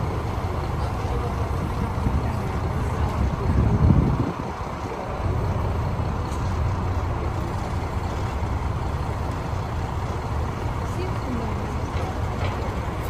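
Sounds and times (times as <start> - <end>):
bus engine rumbling: 0.0 - 13.0
street traffic: 0.0 - 13.0.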